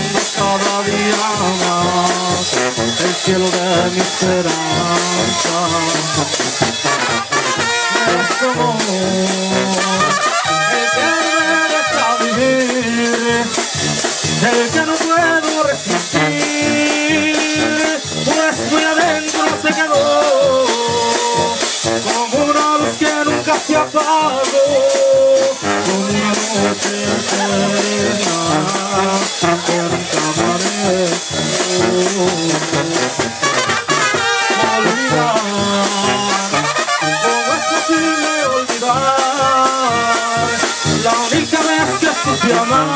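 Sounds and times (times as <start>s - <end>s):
bass drum and cymbal beat: 0.0s - 42.9s
brass band playing: 0.0s - 42.9s
sousaphone bass: 0.0s - 42.9s
trumpet and trombone melody: 0.0s - 42.9s.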